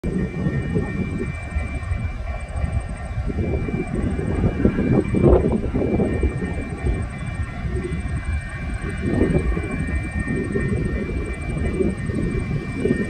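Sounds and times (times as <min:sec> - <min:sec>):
diesel locomotives rumbling: 0:00.0 - 0:13.0
steady high tones: 0:00.0 - 0:13.0.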